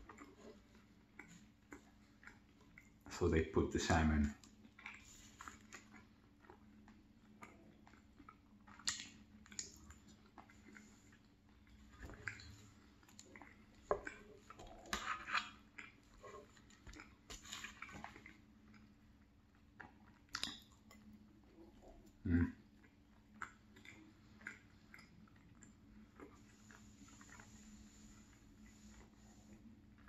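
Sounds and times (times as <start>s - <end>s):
soft chewing: 0.0s - 30.0s.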